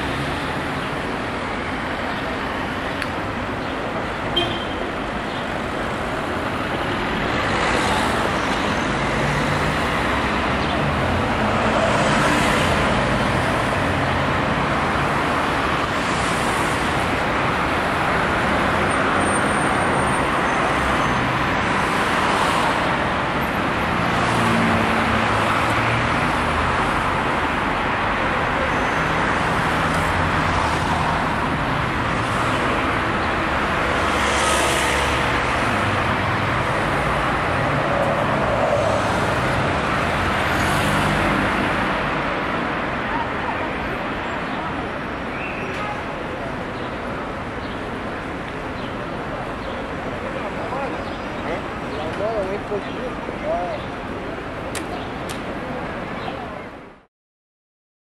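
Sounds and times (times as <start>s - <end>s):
city traffic: 0.0s - 57.1s
vehicles passing by: 0.0s - 57.1s.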